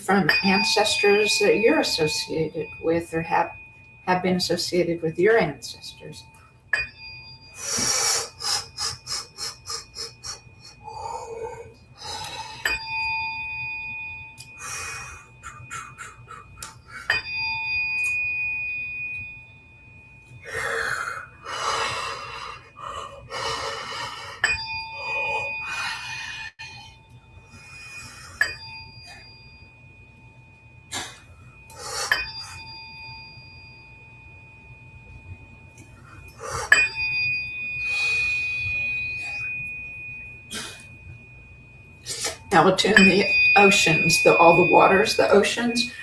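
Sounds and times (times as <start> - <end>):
tuning fork ringing: 0.0 - 46.0.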